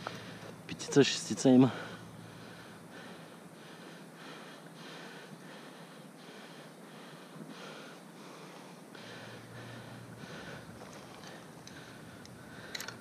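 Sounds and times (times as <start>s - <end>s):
person breathing hard: 1.6s - 13.0s.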